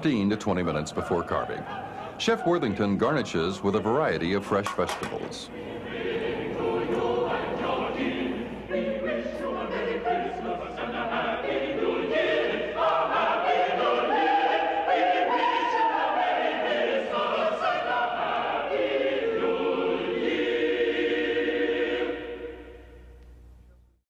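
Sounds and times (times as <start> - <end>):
choir singing held notes: 0.0 - 23.2.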